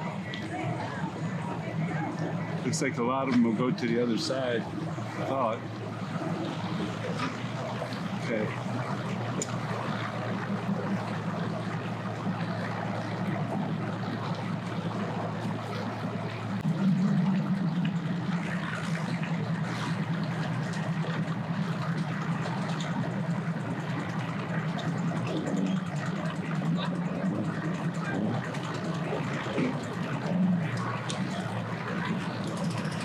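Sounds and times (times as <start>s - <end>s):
boat motors droning: 0.0s - 33.0s
water wash: 0.0s - 33.0s.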